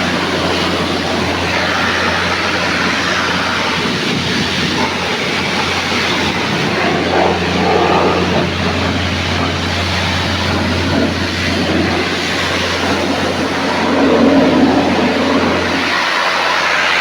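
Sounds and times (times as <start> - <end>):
loud continuous rushing hiss: 0.0 - 17.0.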